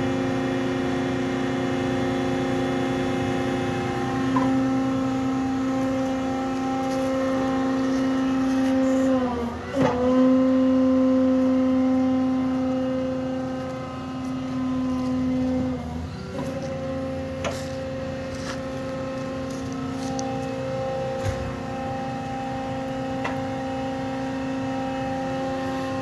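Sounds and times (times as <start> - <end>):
hydraulic machine whine: 0.0 - 26.0.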